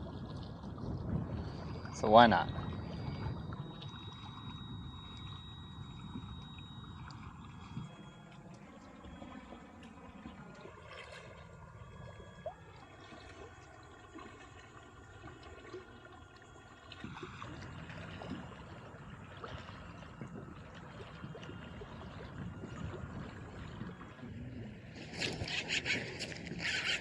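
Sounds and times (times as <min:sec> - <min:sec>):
steady hum: 0:00.0 - 0:25.4
water lapping against kayak hull: 0:00.0 - 0:27.0.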